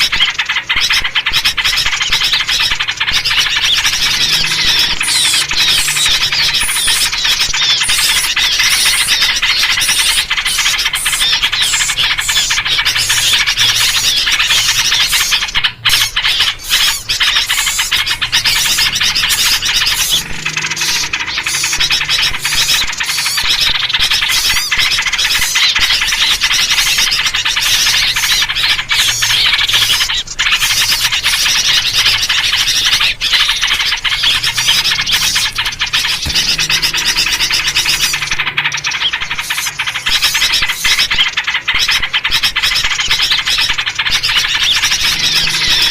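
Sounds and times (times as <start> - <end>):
chorus of agitated bird calls: 0.0 - 45.9.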